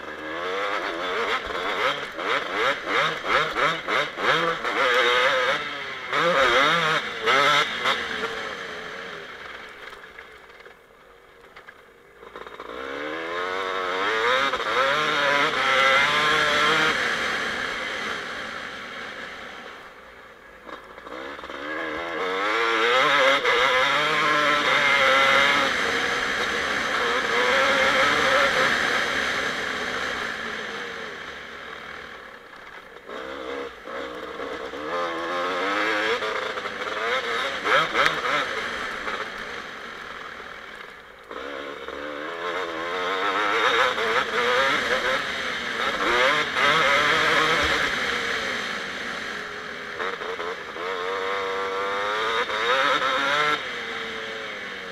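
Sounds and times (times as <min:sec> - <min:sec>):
motocross engine revving: 0:00.0 - 0:10.0, 0:12.2 - 0:20.0, 0:20.6 - 0:54.9.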